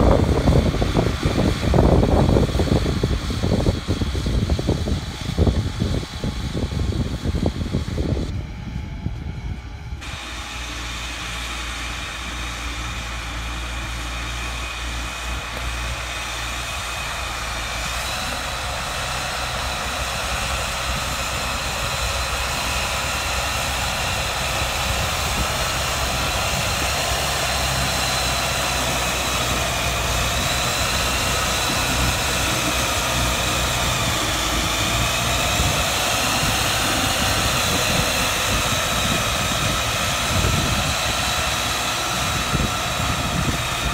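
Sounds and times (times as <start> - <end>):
high engine whine: 0.0 - 43.9
tractor diesel engine droning: 0.0 - 43.9.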